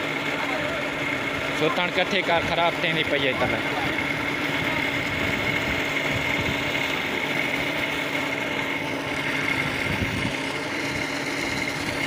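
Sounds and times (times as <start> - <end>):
electric water pump humming: 0.0 - 12.0.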